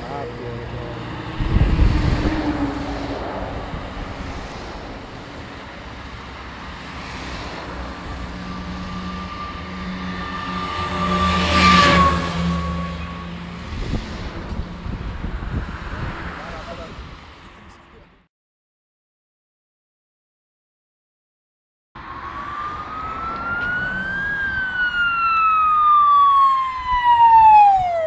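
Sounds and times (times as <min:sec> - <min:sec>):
engine drone with high whine: 0:00.0 - 0:18.0, 0:22.0 - 0:28.0
military vehicles passing: 0:00.0 - 0:18.2, 0:22.0 - 0:28.0.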